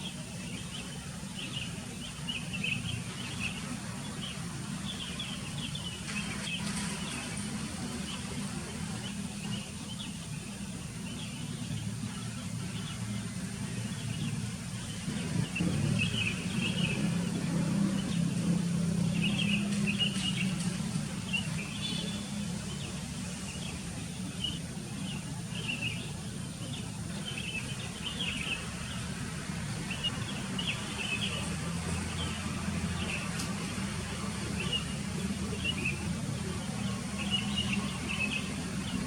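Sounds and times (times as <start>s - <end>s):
bulbuls chirping: 0.0s - 39.0s.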